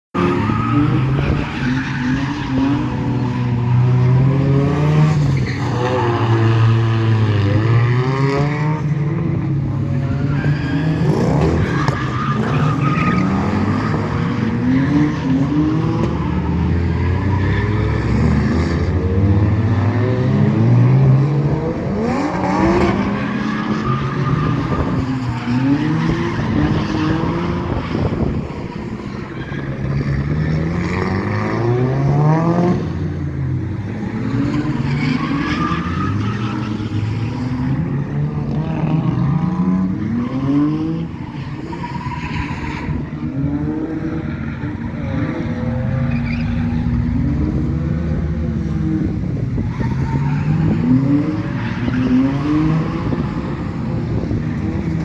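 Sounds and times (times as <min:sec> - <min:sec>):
car engines revving: 0:00.1 - 0:55.0
tire squeal and skidding: 0:00.2 - 0:55.0.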